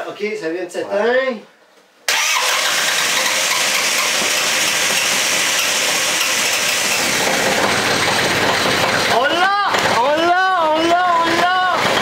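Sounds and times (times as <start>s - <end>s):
diesel tractor engine starting: 2.1s - 12.0s.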